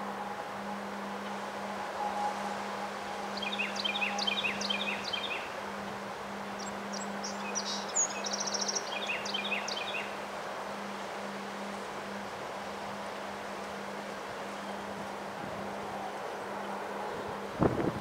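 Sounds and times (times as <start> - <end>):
songbird singing: 0.0 - 17.9
strong wind through trees: 0.0 - 18.0.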